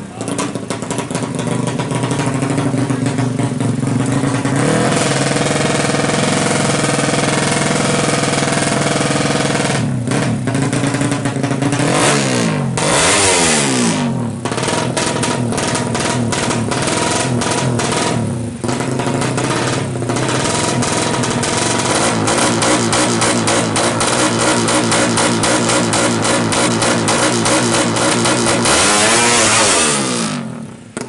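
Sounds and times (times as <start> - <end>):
motorcycle engine sputtering: 0.0 - 31.0.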